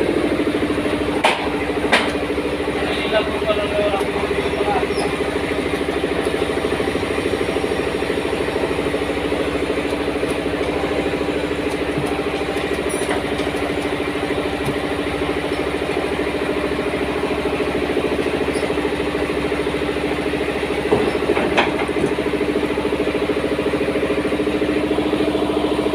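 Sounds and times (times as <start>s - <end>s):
motor running with pulsing: 0.0s - 25.9s.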